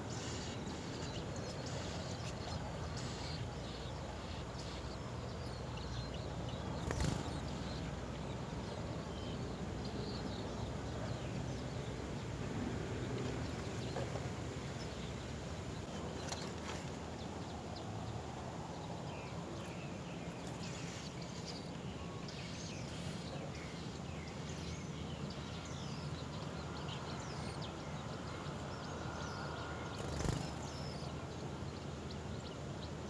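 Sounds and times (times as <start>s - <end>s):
outdoor rumble and hiss: 0.0s - 33.0s
small birds chirping: 0.0s - 33.0s.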